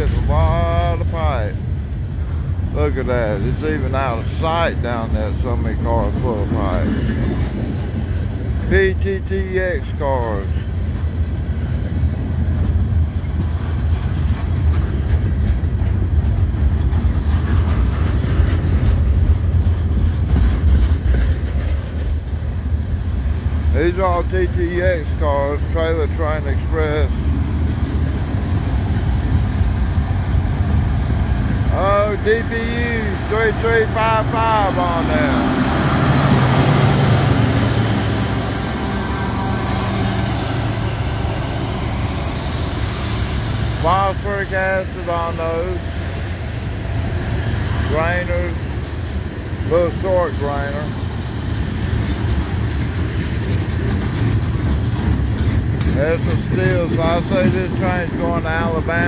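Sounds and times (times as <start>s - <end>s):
diesel locomotive engine drone: 0.0s - 59.0s
freight train rumbling past: 0.0s - 59.0s.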